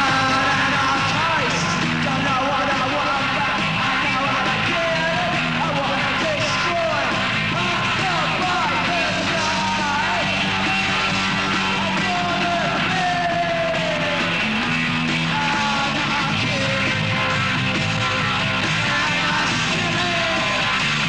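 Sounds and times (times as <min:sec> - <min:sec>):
people yelling: 0:00.0 - 0:14.6, 0:18.6 - 0:21.0
loud punk rock music: 0:00.0 - 0:21.0.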